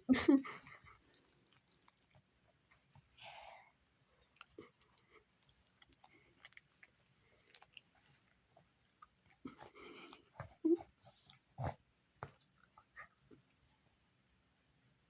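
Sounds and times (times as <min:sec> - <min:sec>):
pet chewing: 0:00.6 - 0:03.2, 0:04.0 - 0:13.5.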